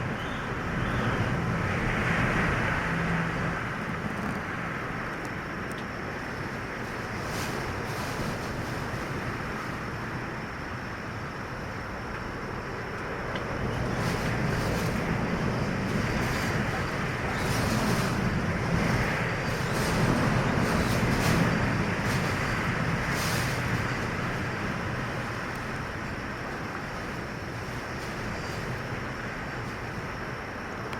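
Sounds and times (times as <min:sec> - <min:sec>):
strong wind blowing: 0:00.0 - 0:30.9
wind rumbling on microphone: 0:00.0 - 0:30.9.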